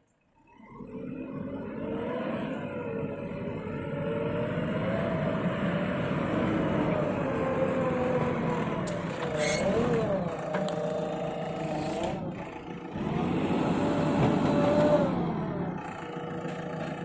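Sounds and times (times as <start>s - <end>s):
excavator diesel engine running: 0.6s - 17.0s.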